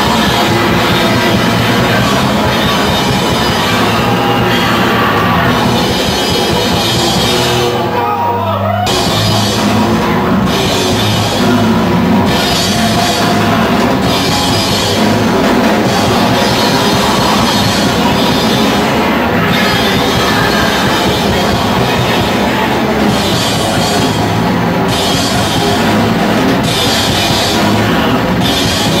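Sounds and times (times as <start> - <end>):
punk band playing live: 0.0 - 29.0.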